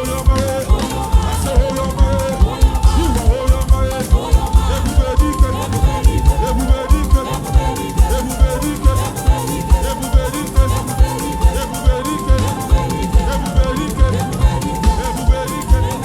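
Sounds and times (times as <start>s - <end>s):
bass: 0.0s - 16.0s
light high percussion: 0.0s - 16.0s
steady drum beat: 0.0s - 16.0s.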